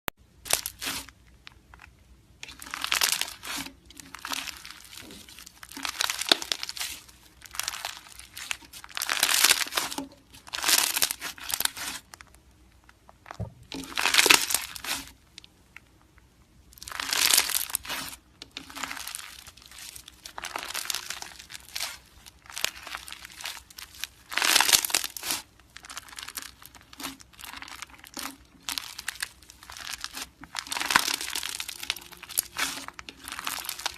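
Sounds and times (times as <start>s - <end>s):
crunchy slime crackling and popping: 0.4s - 33.9s.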